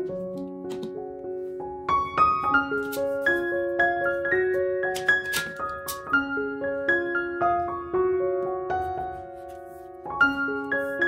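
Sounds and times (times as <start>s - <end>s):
light piano tune: 0.0s - 11.0s.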